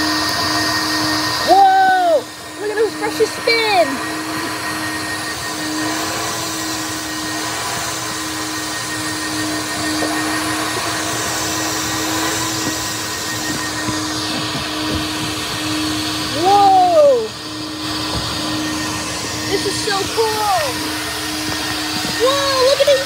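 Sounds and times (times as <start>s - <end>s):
car wash brushes and spray: 0.0s - 23.0s.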